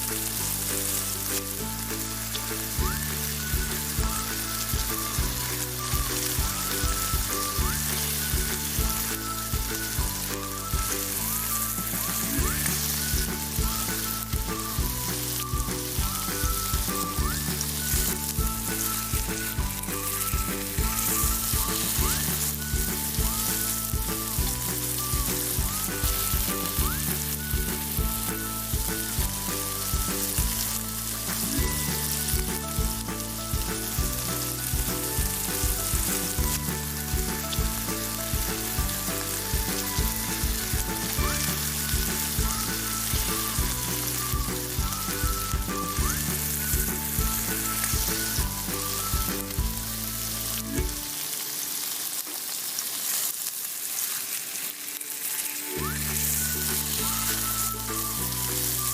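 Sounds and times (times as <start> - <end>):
background music with bass line: 0.0 - 51.2, 55.7 - 58.9
food sizzling as it fries: 0.0 - 58.9.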